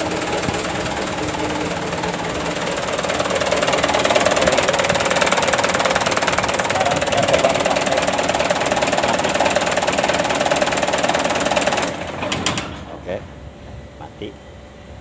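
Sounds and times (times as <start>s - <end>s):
engine knocking as it stops: 0.0s - 12.7s
diesel engine idling: 0.0s - 15.0s.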